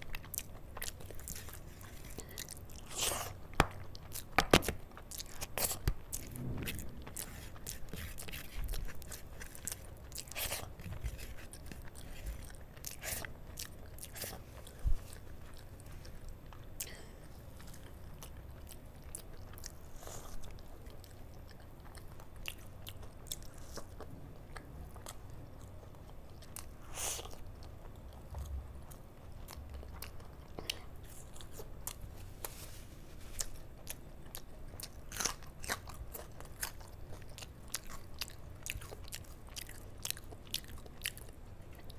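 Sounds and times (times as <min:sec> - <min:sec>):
close chewing and wet mouth sounds: 0:00.0 - 0:41.9.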